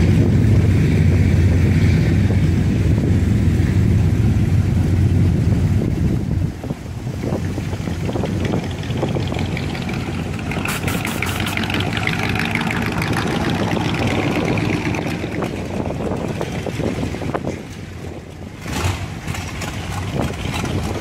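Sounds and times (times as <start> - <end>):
car engine and tyres passing: 0.0 - 21.0
hot rod engine exhaust pulsing: 0.0 - 21.0.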